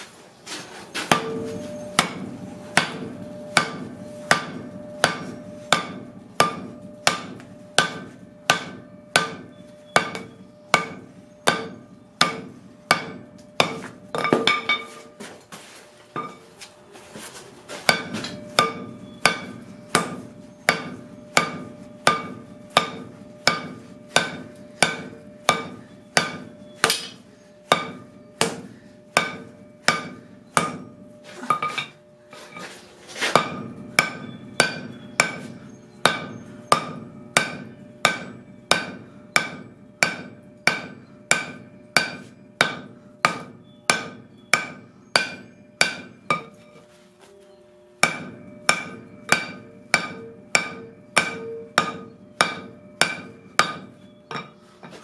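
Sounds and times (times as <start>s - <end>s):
hammer ringing on anvil: 1.1s - 15.4s, 16.2s - 16.5s, 17.8s - 55.0s.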